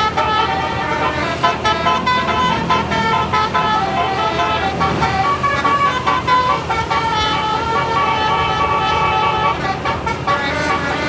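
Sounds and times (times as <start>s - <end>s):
multi-tone air horn melody: 0.0s - 11.0s.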